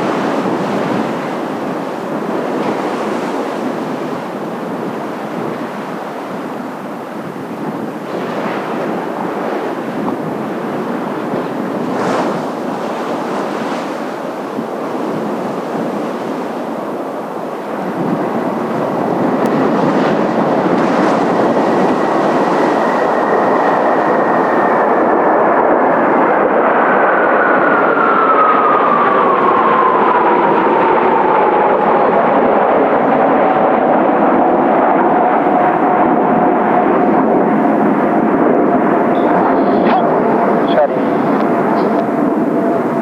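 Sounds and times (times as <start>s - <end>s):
jet roar: 0.0s - 43.0s
turbofan whine: 0.0s - 43.0s.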